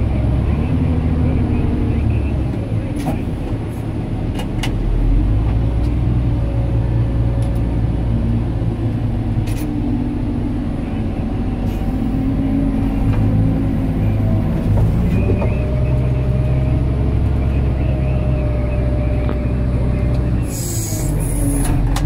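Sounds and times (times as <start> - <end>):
diesel engine rumble: 0.0 - 22.0.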